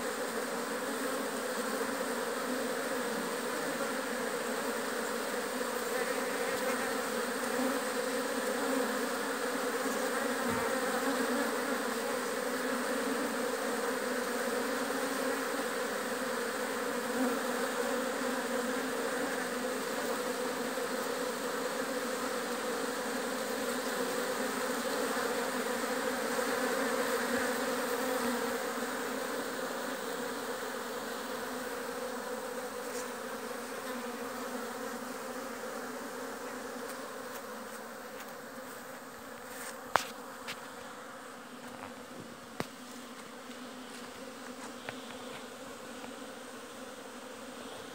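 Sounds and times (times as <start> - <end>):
honeybees buzzing: 0.0 - 47.9.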